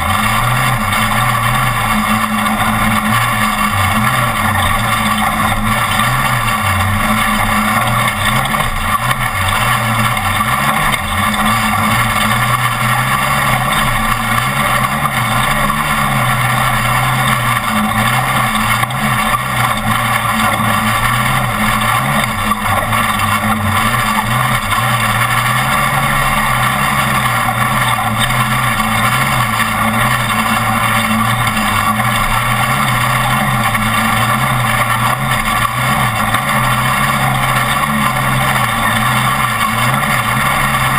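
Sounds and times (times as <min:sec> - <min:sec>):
constant rushing noise: 0:00.0 - 0:40.9
truck engine revving hard: 0:00.0 - 0:40.9.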